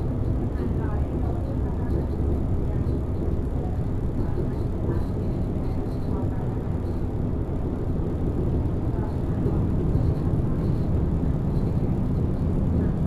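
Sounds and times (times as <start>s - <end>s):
diesel bus engine running: 0.0s - 13.0s
road and cabin rumble: 0.0s - 13.0s.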